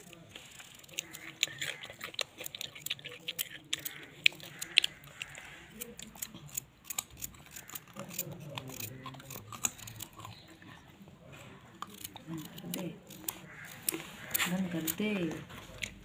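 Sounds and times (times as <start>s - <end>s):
knife cutting carrots: 0.0s - 10.4s, 11.8s - 16.0s.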